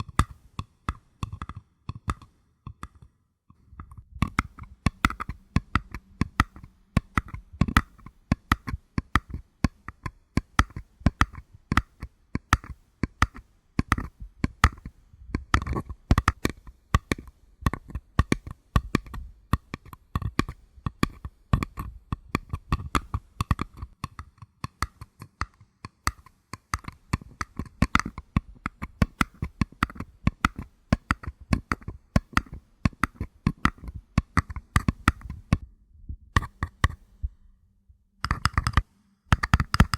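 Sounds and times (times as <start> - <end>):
fingers tapping on paper cups: 0.0 - 35.6, 36.3 - 37.2, 38.2 - 39.9.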